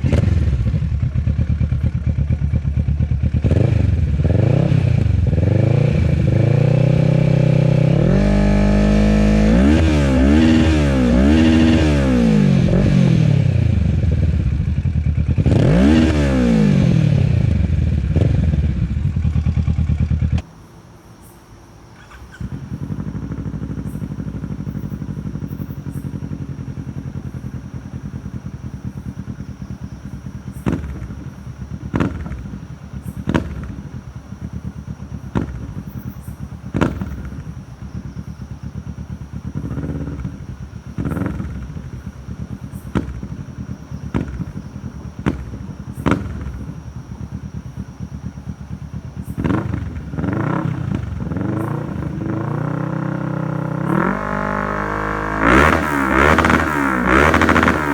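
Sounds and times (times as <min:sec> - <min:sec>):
throttle blips and revs: 0:00.0 - 0:20.5, 0:22.1 - 0:57.9
motorcycle engine idling: 0:00.0 - 0:57.9.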